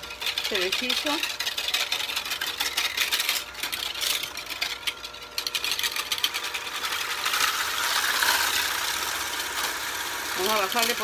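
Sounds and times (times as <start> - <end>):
electric hand mixer whipping: 0.0 - 11.0.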